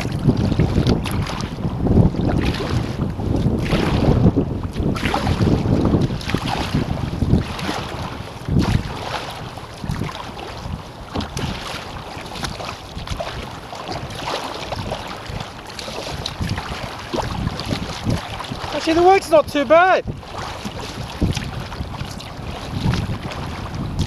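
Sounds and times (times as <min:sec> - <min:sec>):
water sloshing and splashing: 0:00.0 - 0:24.0
wind buffeting microphone: 0:00.0 - 0:24.0.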